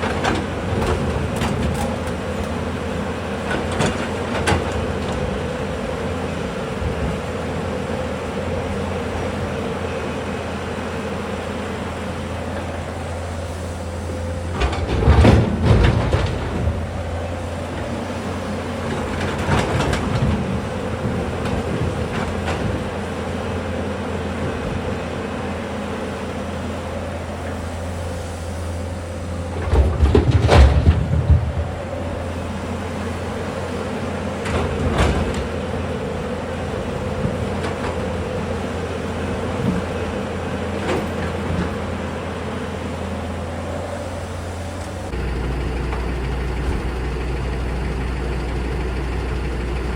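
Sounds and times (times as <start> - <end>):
excavator diesel engine droning: 0.0 - 49.9.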